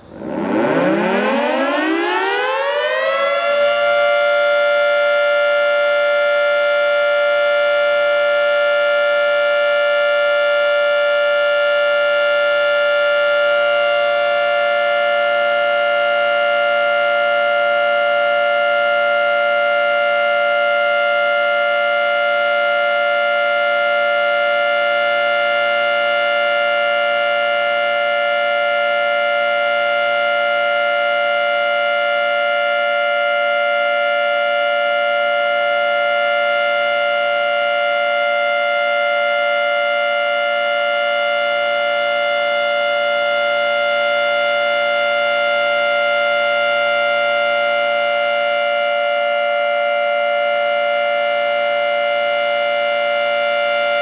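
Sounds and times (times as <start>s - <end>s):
civil defense siren steady tone: 0.0s - 54.0s.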